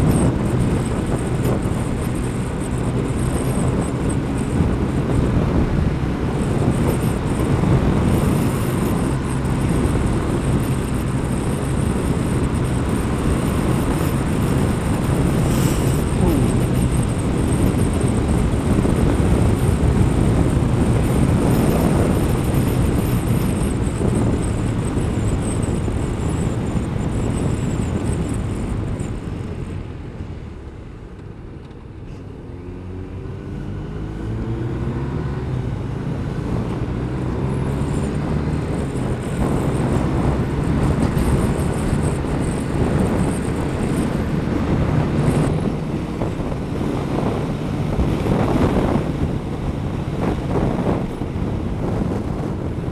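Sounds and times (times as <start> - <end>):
motorcycle engine: 0.0 - 52.9
wind rush: 0.0 - 52.9.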